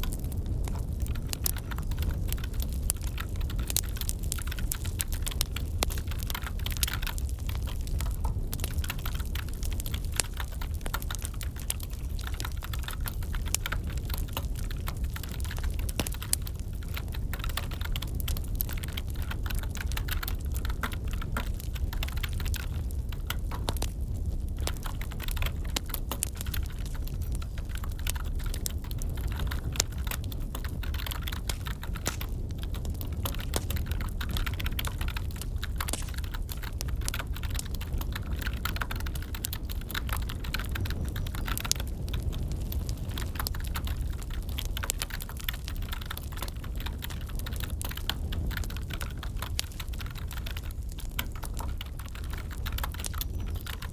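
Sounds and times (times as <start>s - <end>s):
crackling wood fire: 0.0s - 53.9s.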